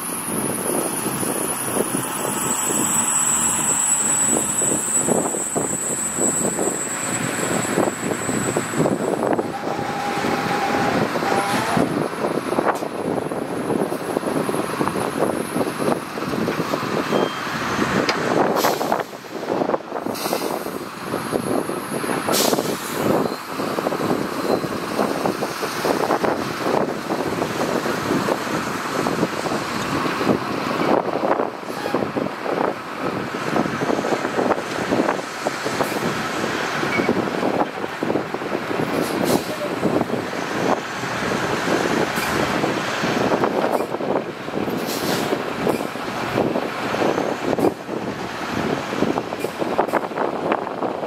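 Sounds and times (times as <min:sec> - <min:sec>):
heavy diesel machinery running: 0:00.0 - 0:51.0.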